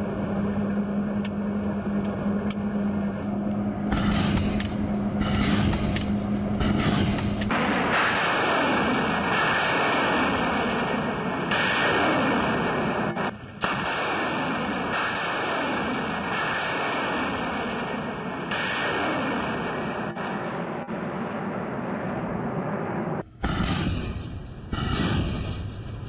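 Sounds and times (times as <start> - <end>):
rocket motors roaring: 0.0 - 26.0.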